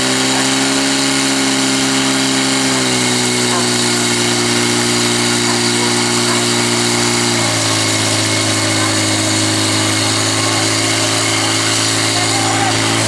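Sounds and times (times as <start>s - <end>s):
pump engine running hard: 0.0s - 13.0s.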